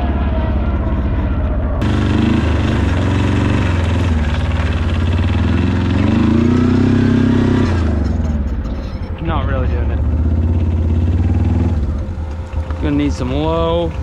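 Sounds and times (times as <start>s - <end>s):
atv engine revving: 0.0s - 8.6s, 9.2s - 14.0s.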